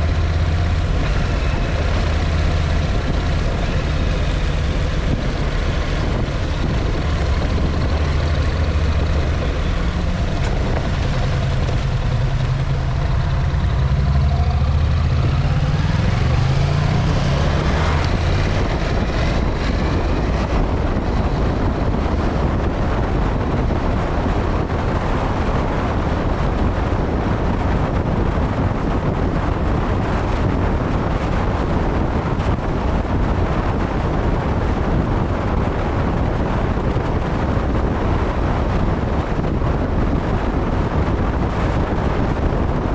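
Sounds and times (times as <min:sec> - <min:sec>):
road noise rumbling: 0:00.0 - 0:42.9
vehicle engine accelerating: 0:00.0 - 0:42.9
wind rushing: 0:00.0 - 0:42.9.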